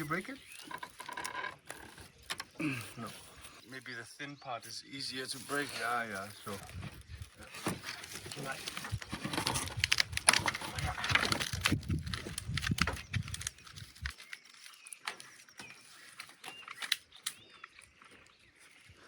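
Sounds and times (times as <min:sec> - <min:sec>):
bamboo cracking and splintering: 0:00.0 - 0:03.6, 0:06.2 - 0:18.4.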